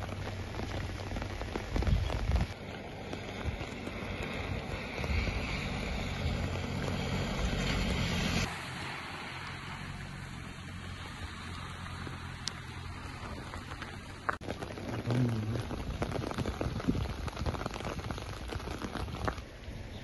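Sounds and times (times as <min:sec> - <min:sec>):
heavy rain hissing: 0:00.0 - 0:20.0
raindrops pattering on hard surface: 0:00.0 - 0:20.0.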